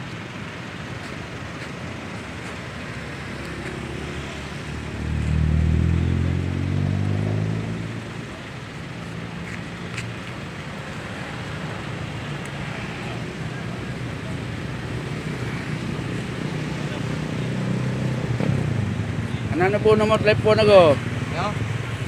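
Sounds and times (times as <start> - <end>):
roadside traffic noise: 0.0 - 22.0
vehicle engine passing close: 1.4 - 22.0.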